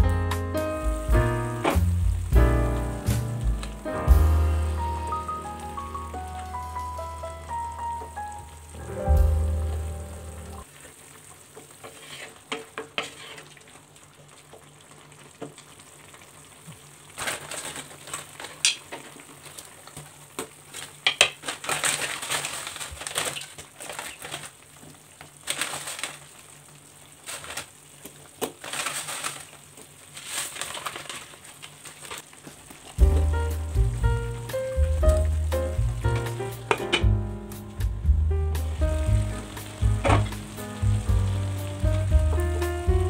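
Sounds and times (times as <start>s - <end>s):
pan sizzling and bubbling: 0.0s - 43.0s.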